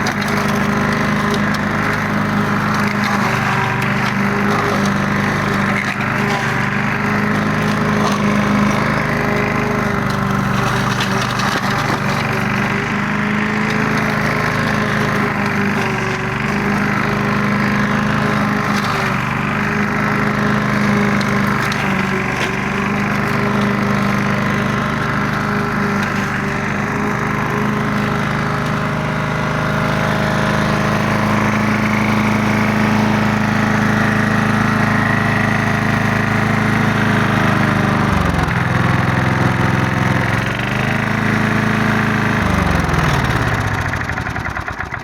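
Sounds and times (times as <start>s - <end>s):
lawn mower engine running: 0.0s - 45.0s.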